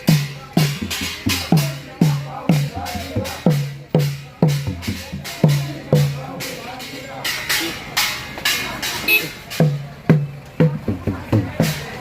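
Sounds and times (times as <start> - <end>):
drum beating: 0.0 - 12.0.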